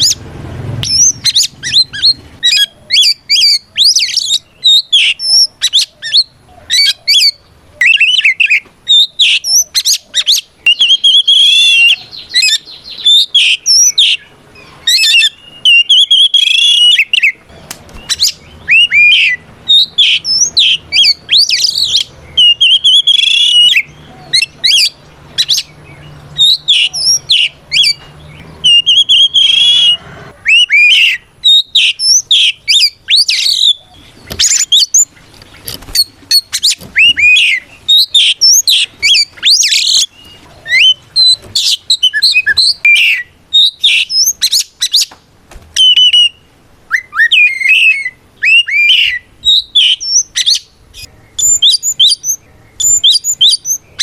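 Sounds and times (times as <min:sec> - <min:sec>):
bird singing whistles and chirps: 0:00.8 - 0:35.1, 0:35.9 - 0:45.1, 0:45.8 - 0:54.0.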